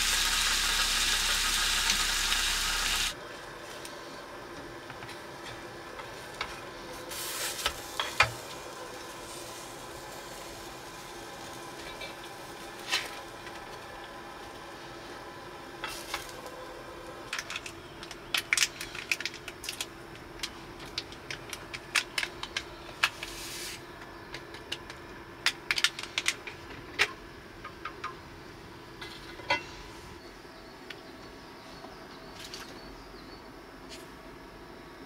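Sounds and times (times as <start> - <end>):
faint hum: 0.0 - 35.0.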